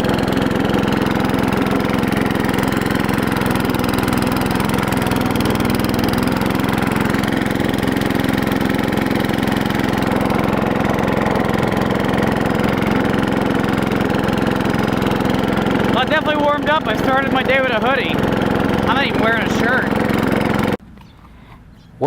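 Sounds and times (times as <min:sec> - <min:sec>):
mower engine idling: 0:00.0 - 0:20.8.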